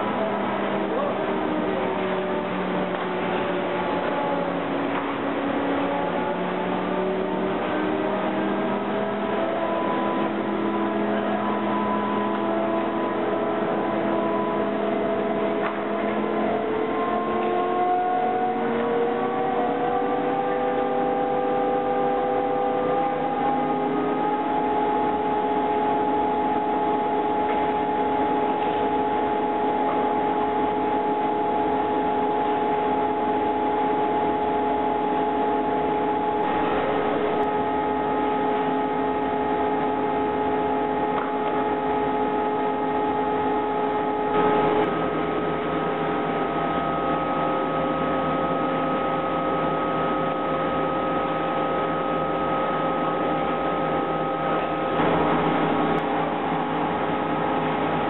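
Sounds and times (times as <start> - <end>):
machine mechanical hum: 0.0 - 58.0
machine whining tones: 0.0 - 58.0.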